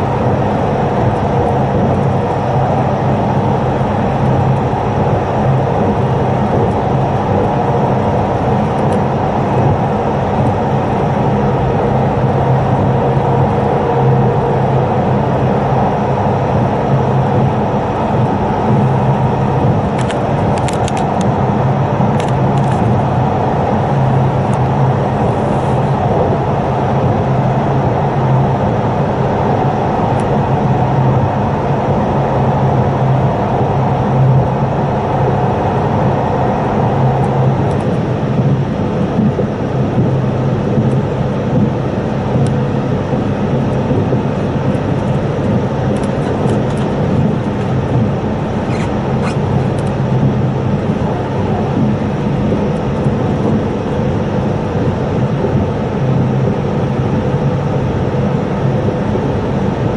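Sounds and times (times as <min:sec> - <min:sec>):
train cabin rumble and hum: 0:00.0 - 0:59.9.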